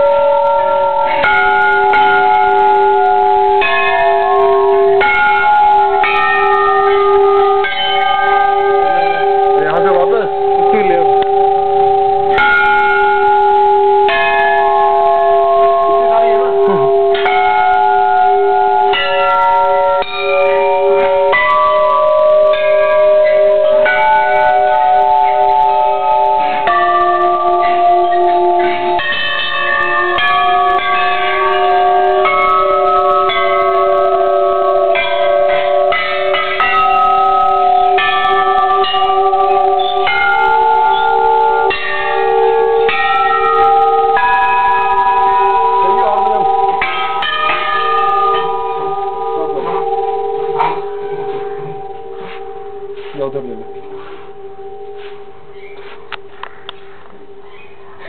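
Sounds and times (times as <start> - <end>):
metal bells ringing: 0.0 - 58.0.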